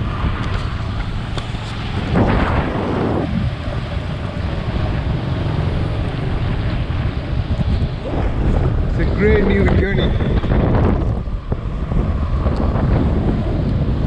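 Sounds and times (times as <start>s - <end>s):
motorcycle road and engine rumble: 0.0s - 14.0s
wind rushing over microphone: 0.0s - 14.0s.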